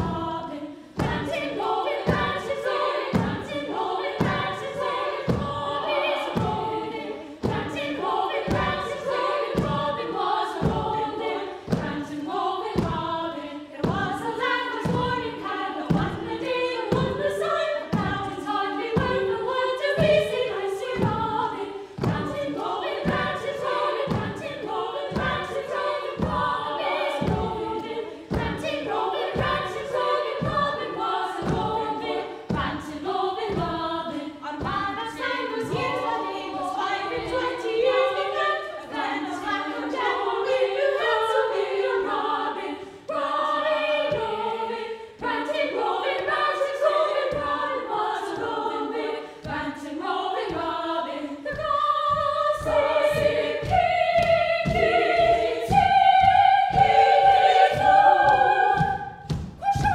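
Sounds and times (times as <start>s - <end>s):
women singing in chorus: 0.0s - 59.9s.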